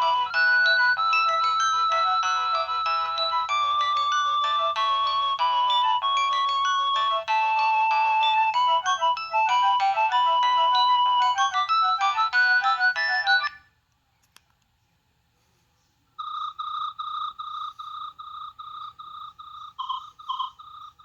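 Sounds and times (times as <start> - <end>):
chirping beep ringtone: 0.0 - 13.6, 16.2 - 21.0
polyphonic ringtone melody: 0.0 - 13.6, 16.2 - 21.0.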